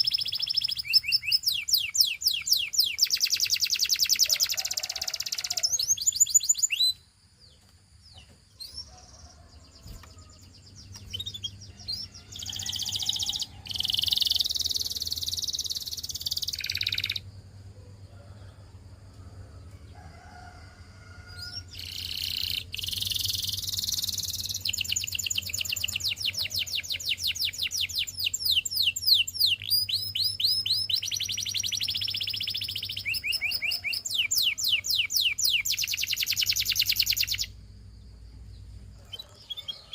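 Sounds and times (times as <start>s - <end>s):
canary singing trills: 0.0s - 17.4s, 21.3s - 37.6s, 38.6s - 39.9s.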